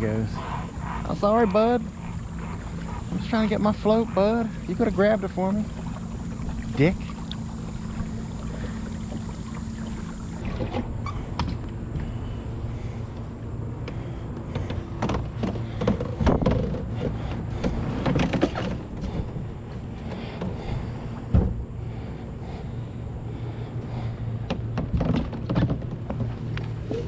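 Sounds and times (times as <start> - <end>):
gear knocking against boat: 0.0 - 27.0
water noise: 0.0 - 27.0.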